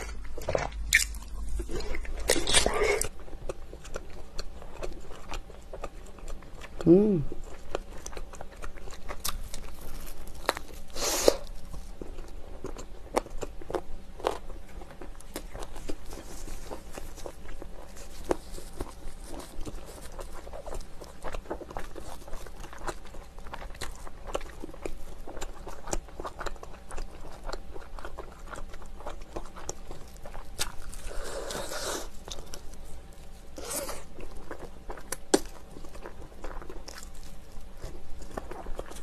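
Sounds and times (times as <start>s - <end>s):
crunching and chewing fried chicken: 0.0s - 39.0s.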